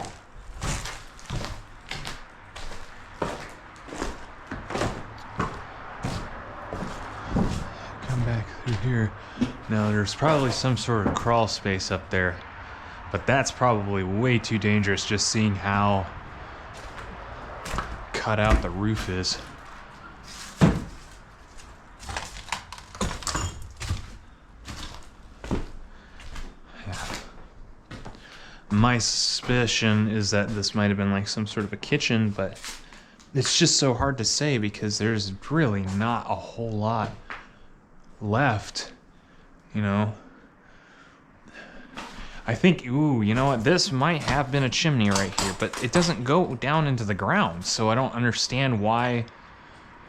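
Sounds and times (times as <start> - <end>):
footsteps walking: 0.0 - 12.2, 13.2 - 37.5, 41.6 - 48.0.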